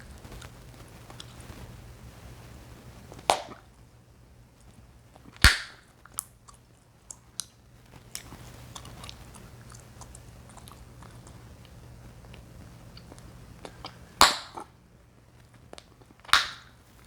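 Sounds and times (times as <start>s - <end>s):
chewing gum popping and snapping: 0.0s - 1.6s, 3.1s - 3.8s, 4.6s - 14.8s, 15.4s - 17.0s.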